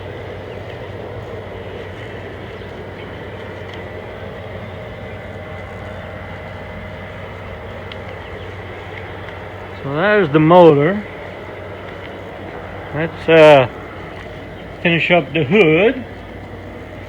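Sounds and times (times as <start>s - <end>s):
steady mechanical drone: 0.0s - 17.0s
faint ticks: 0.4s - 9.9s, 11.0s - 13.1s, 13.7s - 14.9s, 16.0s - 17.0s.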